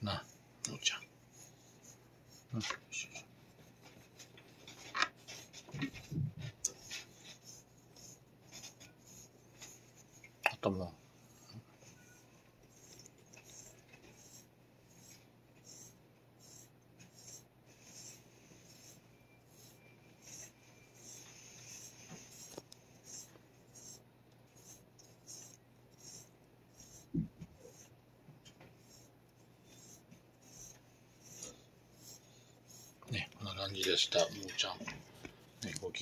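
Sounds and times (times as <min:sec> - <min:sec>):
brush stroking fur: 0:00.2 - 0:10.2, 0:11.2 - 0:28.0, 0:28.7 - 0:34.8.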